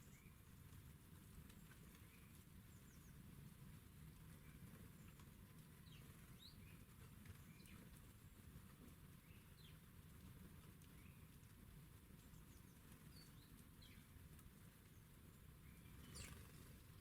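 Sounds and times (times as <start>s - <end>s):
songbird chirps: 0.0s - 17.0s.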